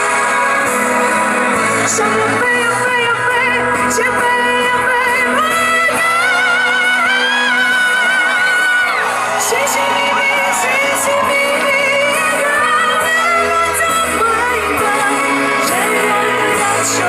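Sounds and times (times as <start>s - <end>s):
live pop band: 0.0s - 17.0s
woman singing with vibrato: 0.0s - 17.0s.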